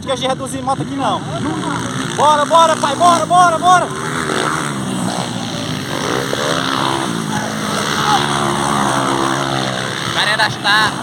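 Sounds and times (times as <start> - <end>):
motocross bike engines droning: 0.0 - 11.0.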